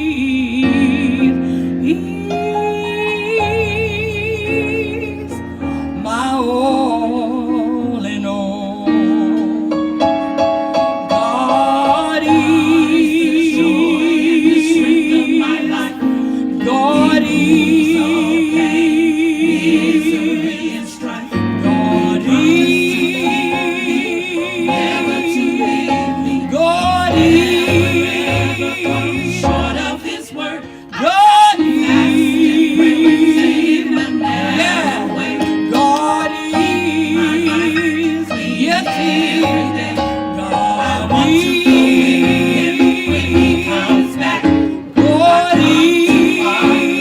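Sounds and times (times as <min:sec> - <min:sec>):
gospel choir singing: 0:00.0 - 0:47.0
keyboard accompaniment: 0:00.0 - 0:47.0.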